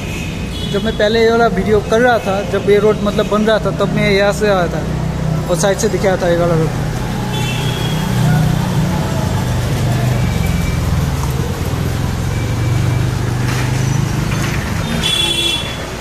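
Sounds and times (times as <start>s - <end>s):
low traffic hum: 0.0s - 16.0s
motorcycles passing: 0.0s - 16.0s.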